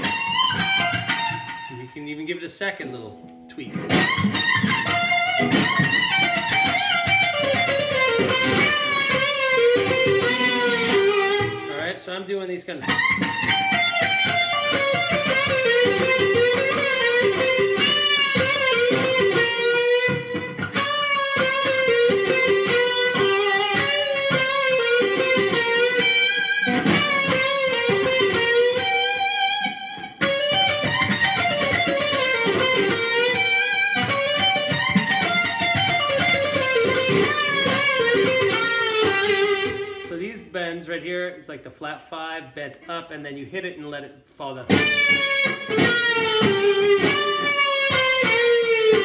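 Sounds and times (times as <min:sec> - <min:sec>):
electric guitar lead line: 0:00.0 - 0:01.9, 0:02.5 - 0:11.9, 0:12.8 - 0:40.6, 0:44.6 - 0:49.0.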